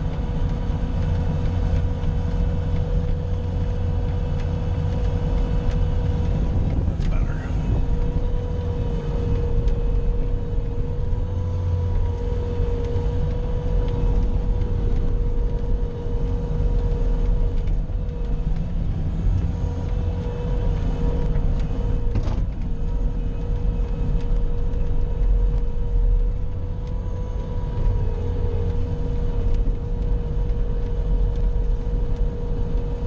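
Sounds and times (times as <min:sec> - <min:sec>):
loader engine rumbling under load: 0:00.0 - 0:33.0
steady high whine: 0:00.0 - 0:33.0.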